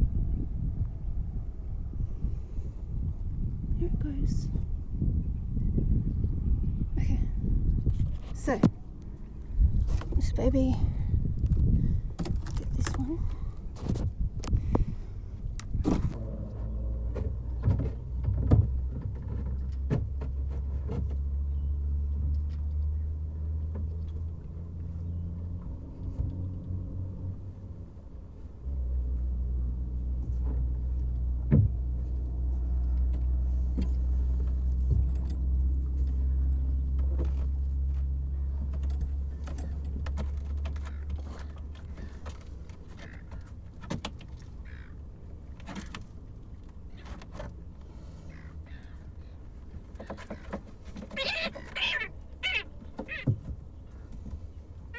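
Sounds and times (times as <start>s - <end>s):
engine hum with pitched drone: 0.0s - 54.9s.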